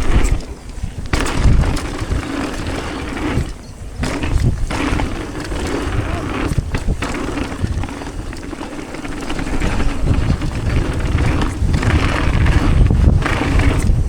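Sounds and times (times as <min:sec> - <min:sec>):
bike rattling over bumps: 0:00.0 - 0:14.0
wind buffeting microphone: 0:00.0 - 0:14.0.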